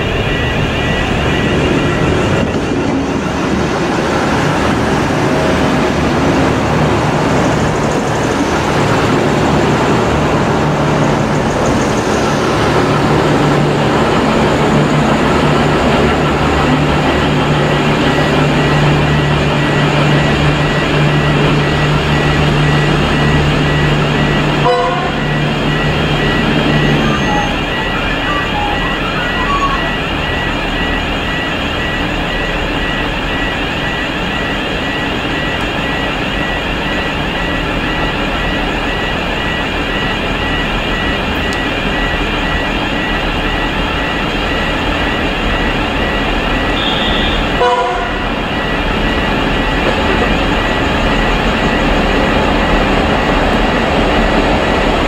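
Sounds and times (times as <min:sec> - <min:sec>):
diesel railcar engine drone: 0:00.0 - 0:55.0
wheel and rail noise: 0:00.0 - 0:55.0.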